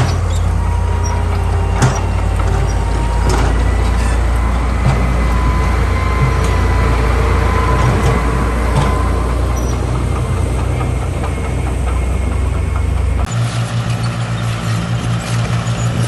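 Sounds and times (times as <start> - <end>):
heavy diesel engine rumbling: 0.0 - 16.0.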